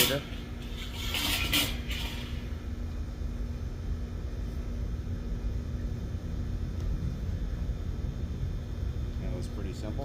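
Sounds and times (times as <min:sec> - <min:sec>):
faint constant hum: 0:00.0 - 0:10.0.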